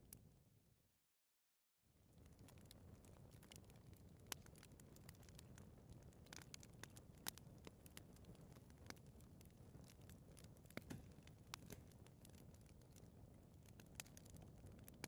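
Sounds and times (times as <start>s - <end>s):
fire crackling and popping: 2.0s - 15.0s
low rumble of flames: 2.0s - 15.0s.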